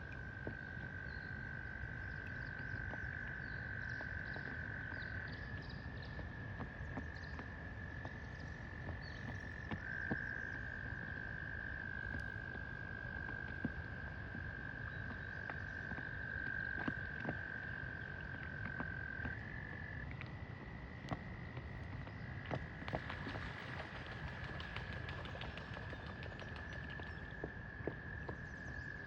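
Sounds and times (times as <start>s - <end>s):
frogs trilling: 0.0s - 29.0s.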